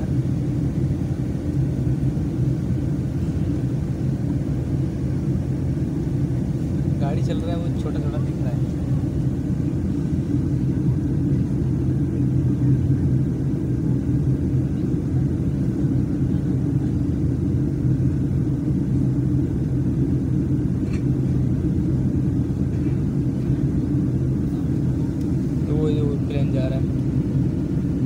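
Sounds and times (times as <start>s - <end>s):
airliner cabin engine drone: 0.0s - 28.0s.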